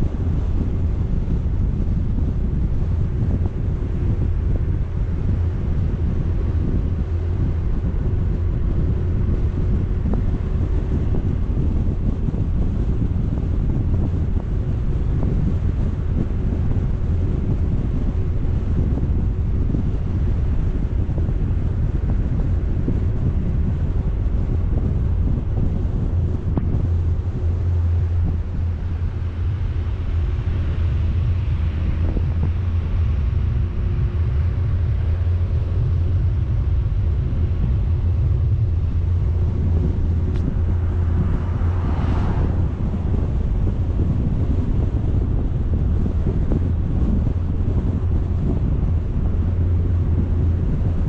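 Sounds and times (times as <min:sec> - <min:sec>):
wind buffeting a microphone: 0:00.0 - 0:51.0.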